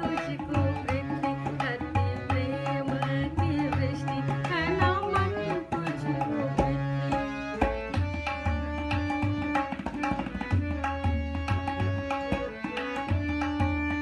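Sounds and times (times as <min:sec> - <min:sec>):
instrumental melody: 0:00.0 - 0:14.0
tabla playing rhythm: 0:00.0 - 0:14.0.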